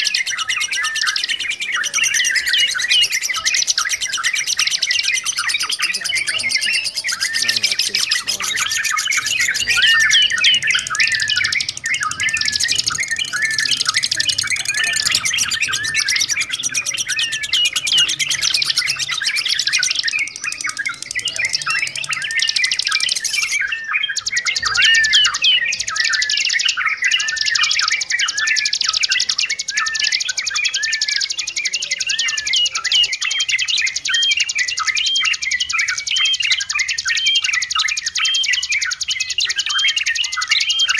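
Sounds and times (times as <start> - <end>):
bulbuls chirping: 0.0 - 40.9.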